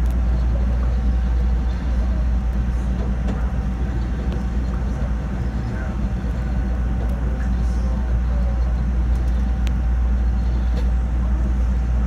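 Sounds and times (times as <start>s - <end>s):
faint steady whine: 0.0s - 12.0s
train rumbling on steel track: 0.0s - 12.0s.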